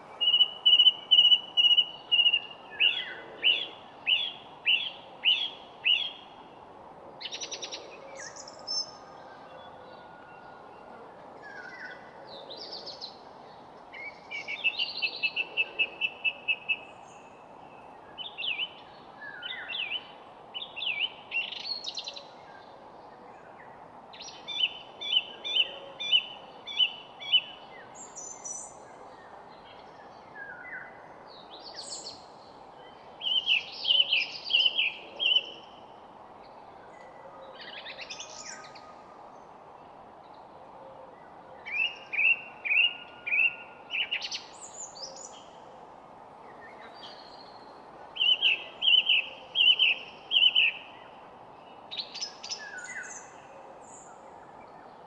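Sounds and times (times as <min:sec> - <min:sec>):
songbirds singing trills and chirps: 0:00.0 - 0:06.6, 0:07.2 - 0:55.0
steady background hiss: 0:00.0 - 0:55.0.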